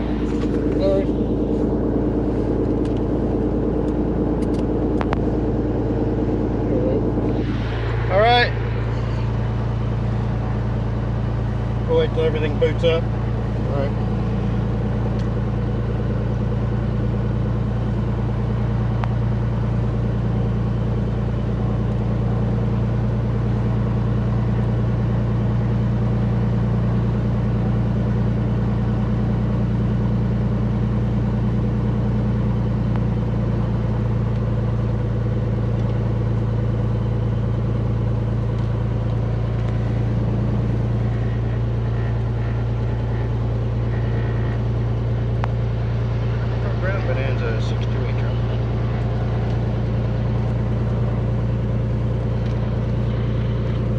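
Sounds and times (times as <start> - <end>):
piston aircraft engine idling: 0.0 - 53.9.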